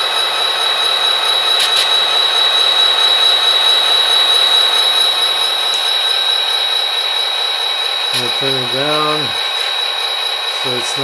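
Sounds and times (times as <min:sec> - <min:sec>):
model train diesel engine sound: 0:00.0 - 0:11.0
steady high whine: 0:00.0 - 0:11.0.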